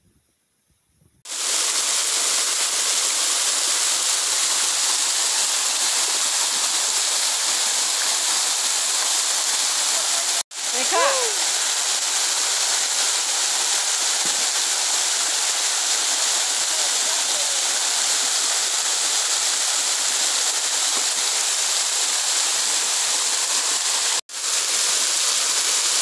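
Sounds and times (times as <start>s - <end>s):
waterfall rushing and splashing: 1.3s - 26.0s.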